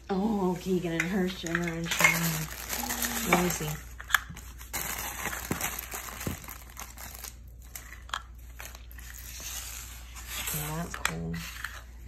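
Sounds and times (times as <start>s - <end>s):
plastic wrapping crinkling: 1.2s - 11.9s.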